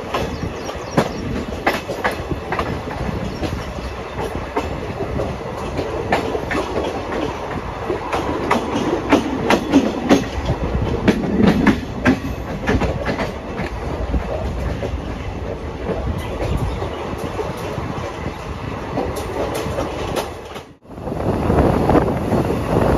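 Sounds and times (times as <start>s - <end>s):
train wheels clacking on track: 0.0s - 20.8s.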